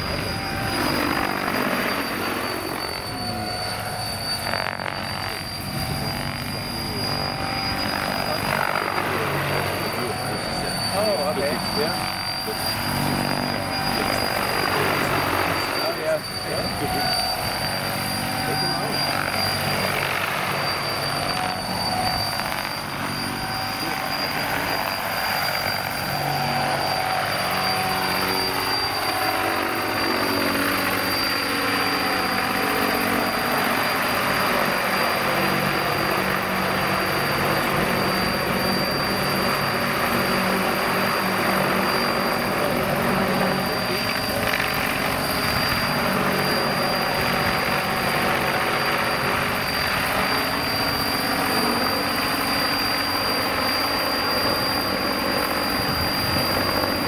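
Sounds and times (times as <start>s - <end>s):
rotor blades whirring: 0.0s - 57.0s
thin high whine: 0.0s - 57.0s.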